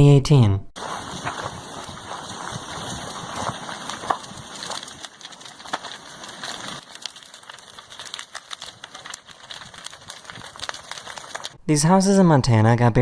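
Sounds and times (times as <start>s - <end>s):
wood crackling and snapping: 0.8s - 11.6s.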